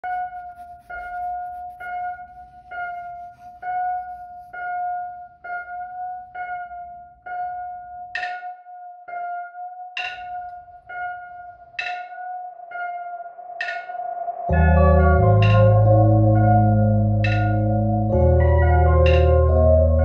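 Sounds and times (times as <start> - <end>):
repeated high note music: 0.1 - 20.0.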